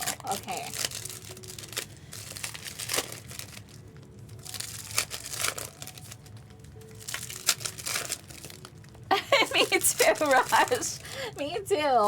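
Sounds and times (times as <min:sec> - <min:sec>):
wrappers crinkling and tearing: 0:00.0 - 0:12.0.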